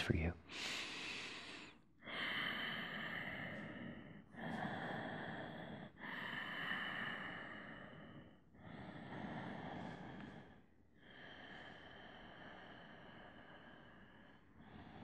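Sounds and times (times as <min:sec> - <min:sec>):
man breathing slowly: 0:00.0 - 0:15.0.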